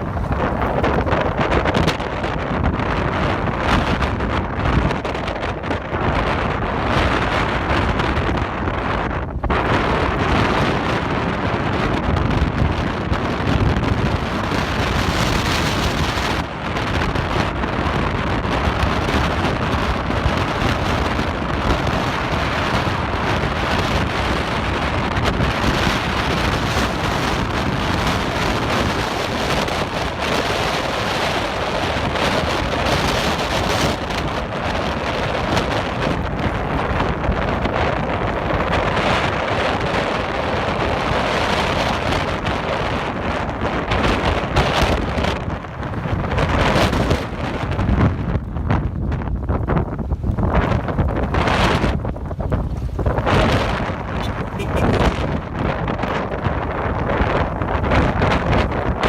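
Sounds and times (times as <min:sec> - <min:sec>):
wind noise on microphone: 0:00.0 - 0:59.0
heavy rain falling: 0:09.5 - 0:59.0.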